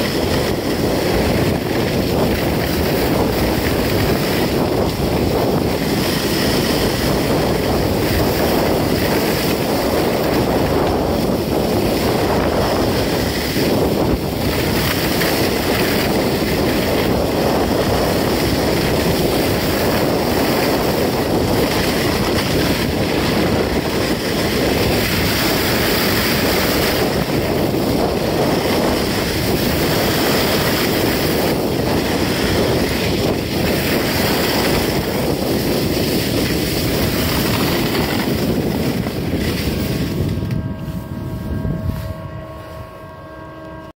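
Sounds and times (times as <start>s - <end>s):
skis scraping over hard snow: 0.0s - 42.8s
wind buffeting microphone: 0.0s - 43.9s.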